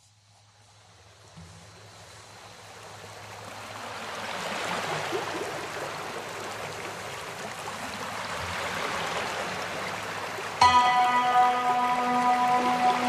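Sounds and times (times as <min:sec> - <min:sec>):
stream running over rocks: 0:00.6 - 0:13.0.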